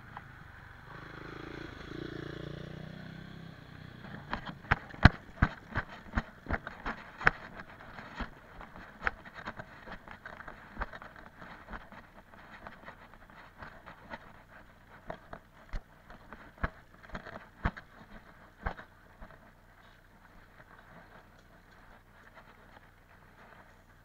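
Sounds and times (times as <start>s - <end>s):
bike chassis rattling: 4.0s - 24.0s.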